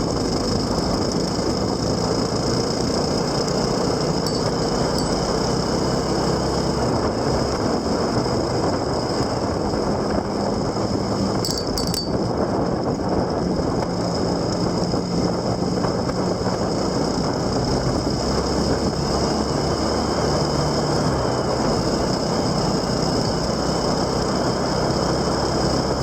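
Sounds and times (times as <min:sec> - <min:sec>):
low engine hum: 0:00.0 - 0:26.0
wind and road noise: 0:00.0 - 0:26.0.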